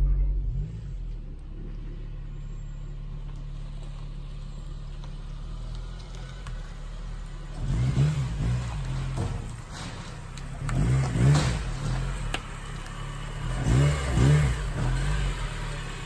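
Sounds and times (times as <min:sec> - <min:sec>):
car engine running low: 0:00.0 - 0:16.0.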